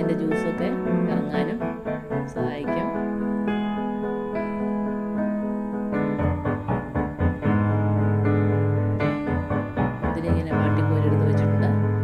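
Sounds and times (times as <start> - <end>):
piano-like notes: 0.0 - 12.0.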